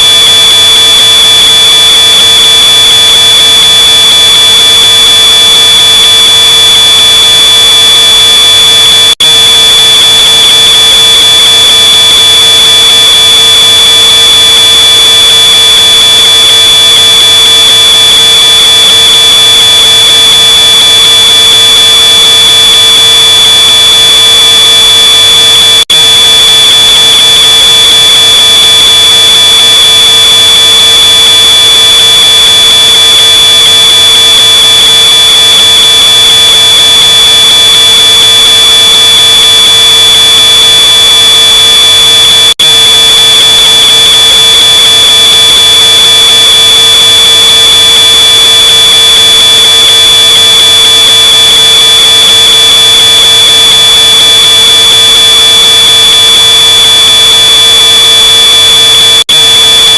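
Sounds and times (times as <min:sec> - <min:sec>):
smoke alarm high-pitched tone: 0:00.0 - 0:59.9.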